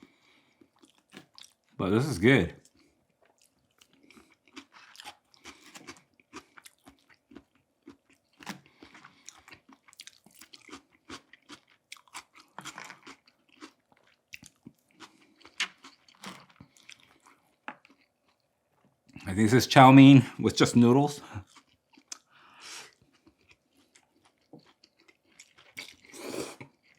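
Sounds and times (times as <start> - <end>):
chewing food with crunches: 0.0 - 1.8, 2.6 - 19.3, 21.4 - 26.9.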